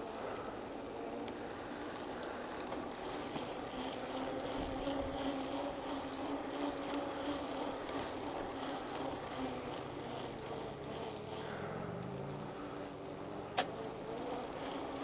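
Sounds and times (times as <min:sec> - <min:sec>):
bicycle tyre and drivetrain noise: 0:00.0 - 0:15.0
faint low hum: 0:00.0 - 0:15.0.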